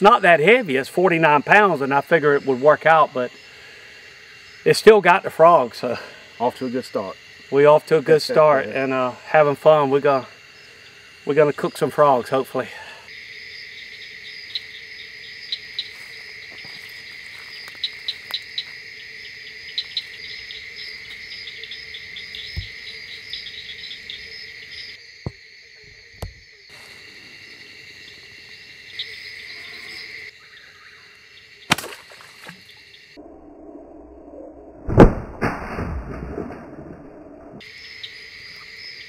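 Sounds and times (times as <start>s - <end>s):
crickets and insects trilling: 0.0s - 39.0s.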